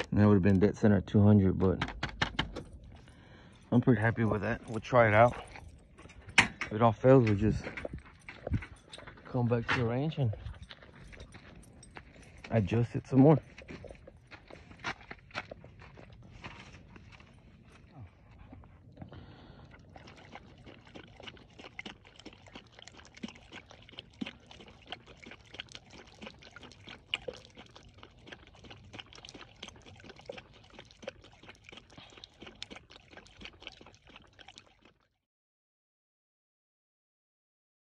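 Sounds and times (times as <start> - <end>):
dog lapping water from bottle: 0.0 - 1.1, 1.7 - 35.2.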